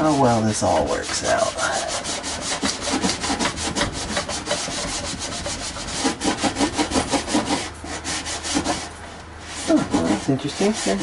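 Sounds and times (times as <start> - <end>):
cloth scrubbing inside microwave: 0.0 - 11.0.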